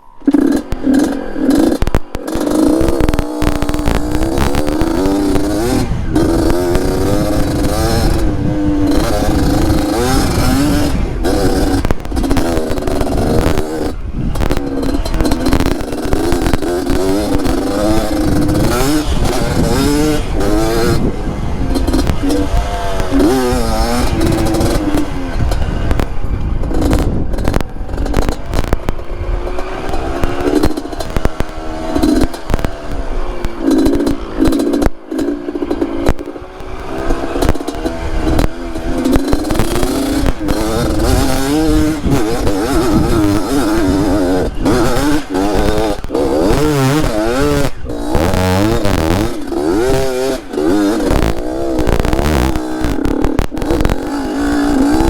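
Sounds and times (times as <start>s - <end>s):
two-stroke motorbike engine revving: 0.0s - 55.0s
knocks and clatter: 0.2s - 55.0s.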